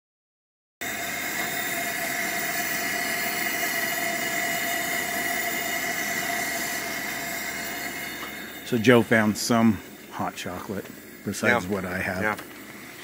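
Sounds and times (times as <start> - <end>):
camp stove burner hissing: 0.8 - 13.0.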